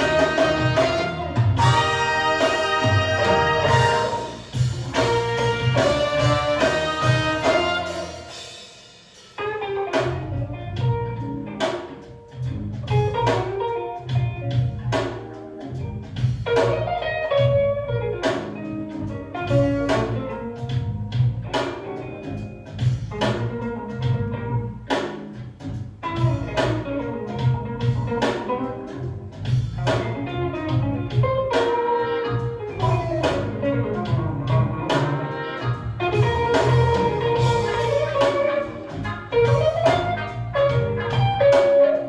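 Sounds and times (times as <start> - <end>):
instrumental music playing: 0.0 - 42.0.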